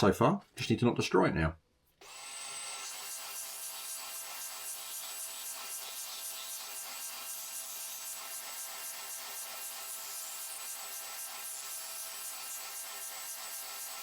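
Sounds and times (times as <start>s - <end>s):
electric sander on wood: 2.0s - 14.0s.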